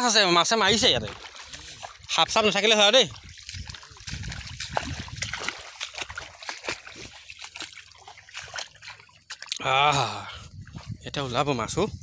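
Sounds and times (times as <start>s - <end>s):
footsteps splashing in muddy water: 0.0s - 12.0s.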